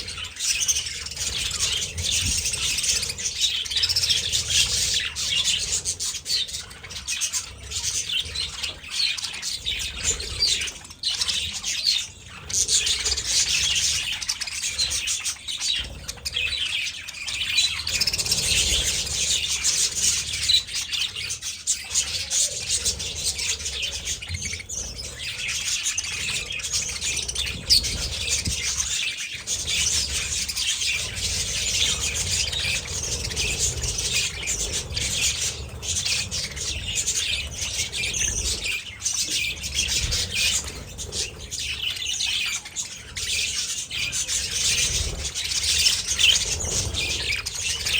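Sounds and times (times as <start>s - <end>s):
budgerigars chirping and chattering: 0.0s - 47.9s.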